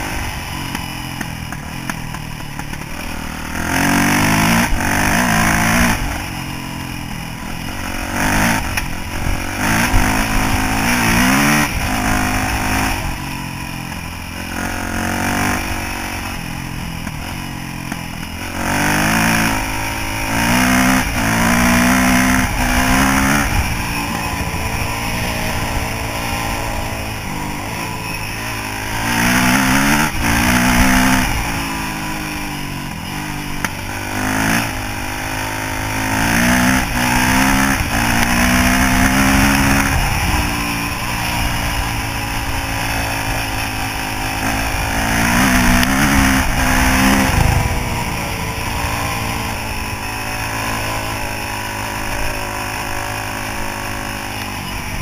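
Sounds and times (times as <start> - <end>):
dirt bike engine accelerating: 0.0 - 55.0.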